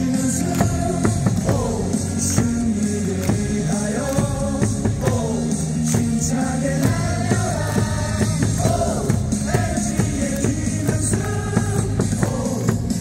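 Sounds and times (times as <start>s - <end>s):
amplified music with beat: 0.0s - 13.0s
crowd singing in unison: 0.0s - 13.0s.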